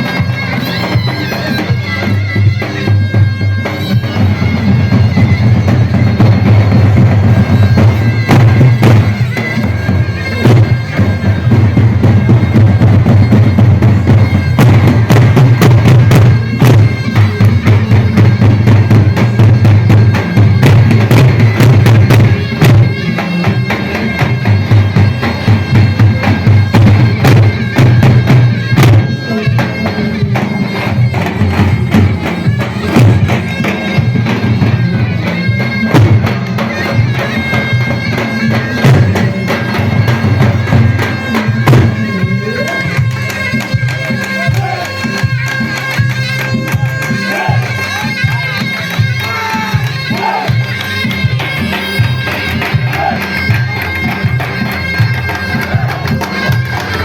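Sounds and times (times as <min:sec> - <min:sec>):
shawm playing loud melody: 0:00.0 - 0:57.0.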